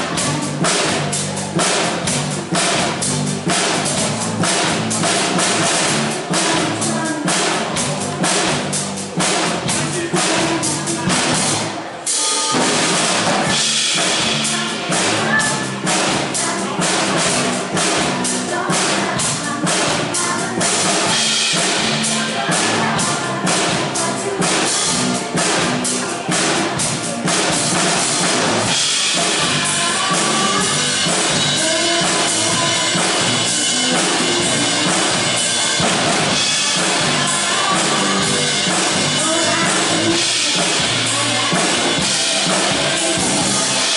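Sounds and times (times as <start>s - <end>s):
drum kit kick and snare: 0.0s - 11.6s, 12.5s - 43.9s
band playing pop song: 0.0s - 43.9s.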